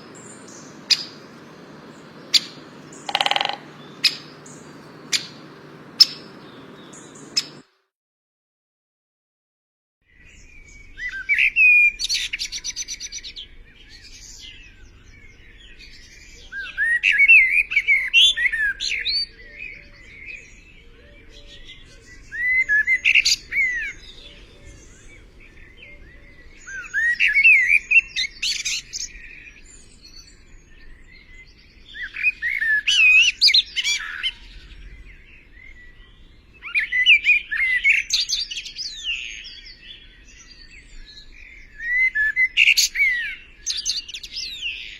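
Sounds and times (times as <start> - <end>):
songbird singing: 0.0 - 7.7, 10.1 - 44.9.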